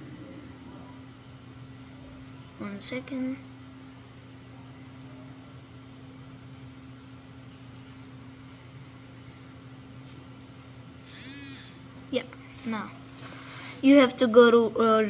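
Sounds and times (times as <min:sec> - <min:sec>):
low hum with faint hiss: 0:00.0 - 0:15.0.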